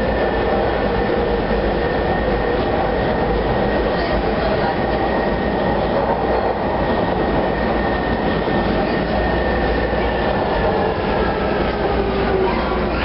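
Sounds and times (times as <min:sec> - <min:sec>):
subway car rumbling on track: 0:00.0 - 0:13.0.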